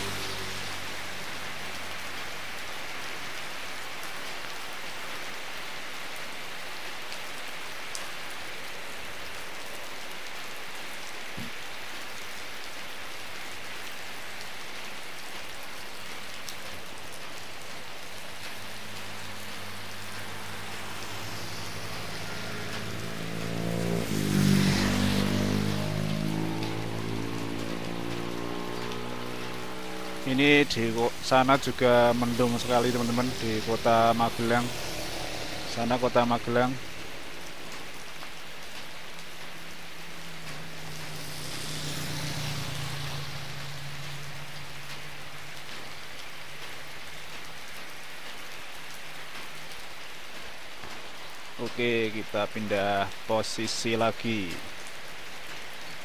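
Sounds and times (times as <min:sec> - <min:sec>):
heavy rain on road and roof: 0:00.0 - 0:56.0
vehicle passing on wet road: 0:00.0 - 0:56.0.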